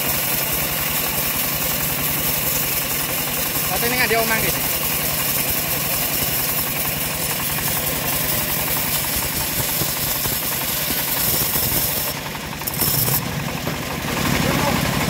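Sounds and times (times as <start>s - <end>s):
saw blade cutting log: 0.0s - 15.0s
sawmill engine beating: 0.0s - 15.0s.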